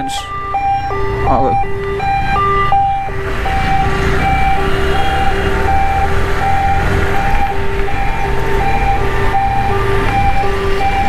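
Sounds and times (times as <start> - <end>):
ambulance siren two-tone wail: 0.0 - 11.0.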